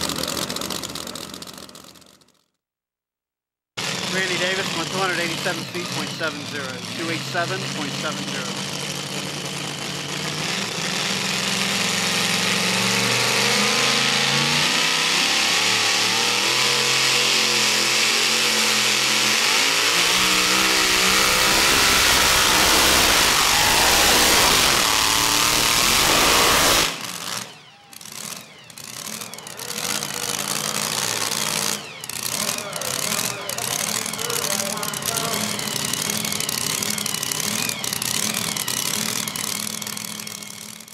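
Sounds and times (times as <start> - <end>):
supercharged truck engine at full throttle: 0.0 - 2.4, 3.8 - 40.9.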